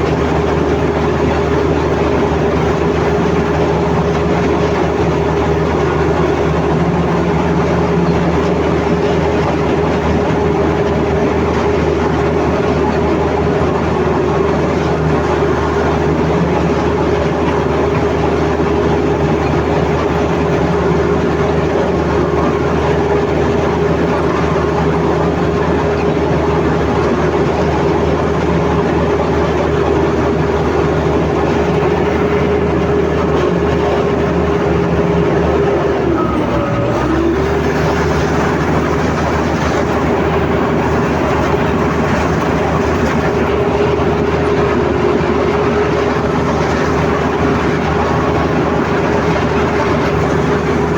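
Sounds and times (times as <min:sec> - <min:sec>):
bulldozer diesel engine: 0:00.0 - 0:50.9
tracks clanking: 0:00.0 - 0:50.9.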